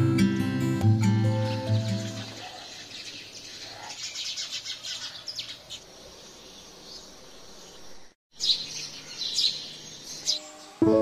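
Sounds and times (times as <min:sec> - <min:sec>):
small birds chirping: 0:01.1 - 0:11.0.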